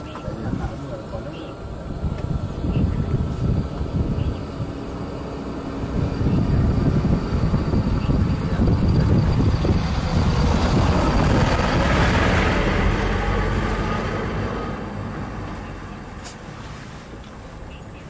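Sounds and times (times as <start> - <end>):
motor vehicle rumble: 0.0 - 18.0.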